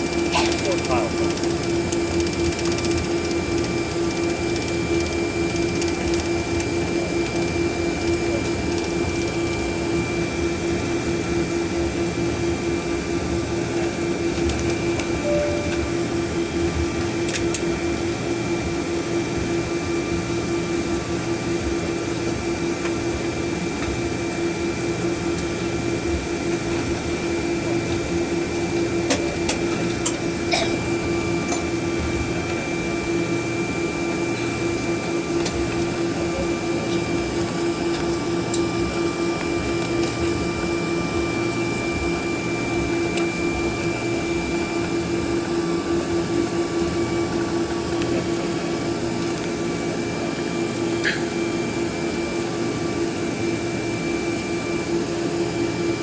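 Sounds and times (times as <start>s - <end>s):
aircraft engines humming with whine: 0.0s - 56.0s.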